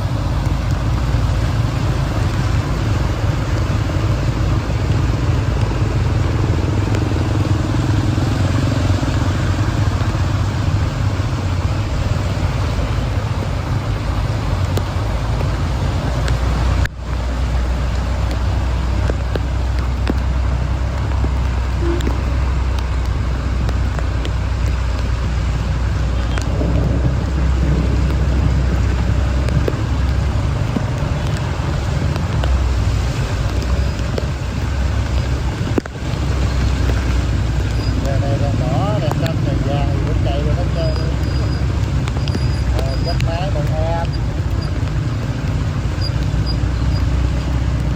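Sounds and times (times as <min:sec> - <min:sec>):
vehicle driving through rain: 0:00.0 - 0:47.9.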